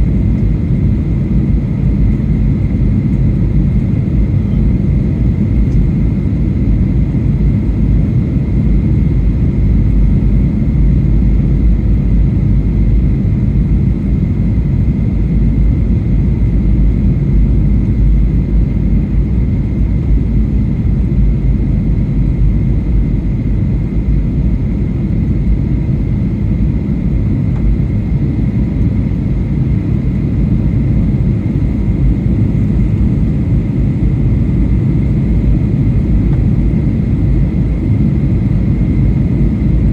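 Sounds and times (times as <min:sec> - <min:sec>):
airplane cabin rumble: 0:00.0 - 0:39.9
faint steady whine: 0:00.0 - 0:39.9.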